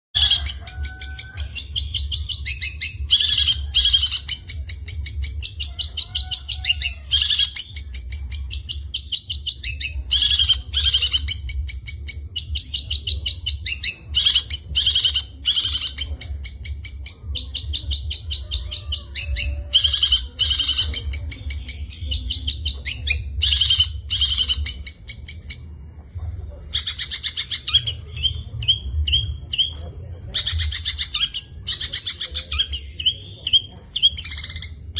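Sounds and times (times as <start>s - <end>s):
bird singing chattering song: 0.2s - 25.8s, 26.7s - 34.9s
steady low hum: 0.2s - 34.9s.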